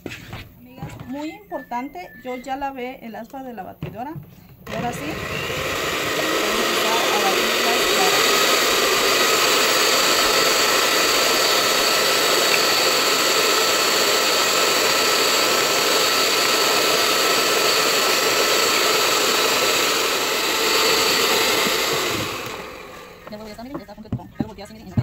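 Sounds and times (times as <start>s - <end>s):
electric hand mixer whining: 4.6s - 25.0s.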